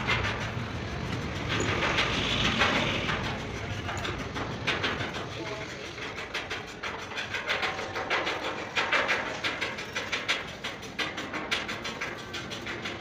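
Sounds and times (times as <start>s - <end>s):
rapid clatter of clicks and knocks: 0.0s - 13.0s
steady background noise: 0.0s - 13.0s.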